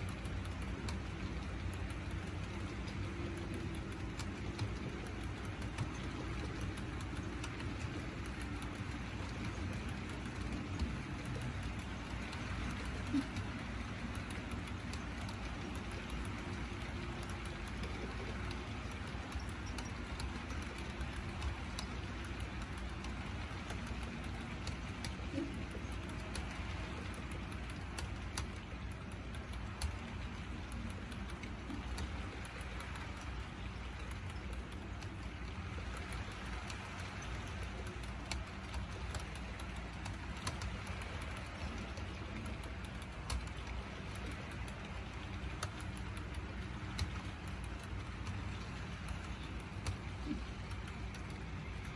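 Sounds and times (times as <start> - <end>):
model train cars rolling: 0.0 - 51.9
wheels clicking on rails: 0.0 - 51.9.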